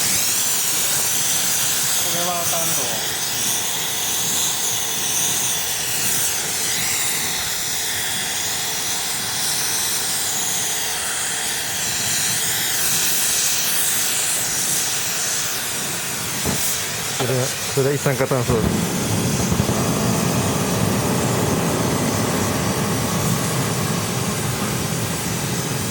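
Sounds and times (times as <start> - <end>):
torch flame hissing: 0.1 - 6.8, 10.0 - 25.9.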